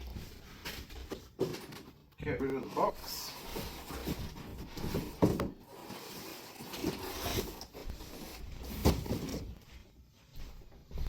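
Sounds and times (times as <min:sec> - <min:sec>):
cardboard scraping and rustling: 0:00.0 - 0:09.6.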